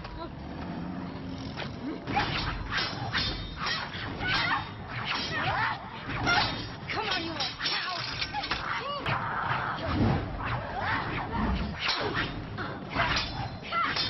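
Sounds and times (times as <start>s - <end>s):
fighting staffs clashing: 1.6s - 14.0s.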